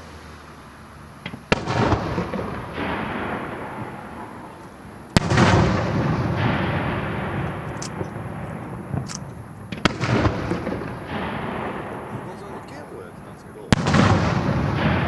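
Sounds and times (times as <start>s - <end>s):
rumbling crackling tail: 0.0s - 15.0s
firework shells bursting: 1.2s - 15.0s.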